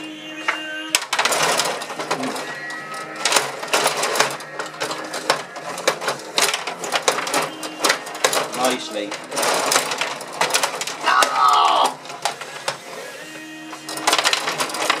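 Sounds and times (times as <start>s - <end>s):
table hockey rods clacking: 0.0s - 15.0s.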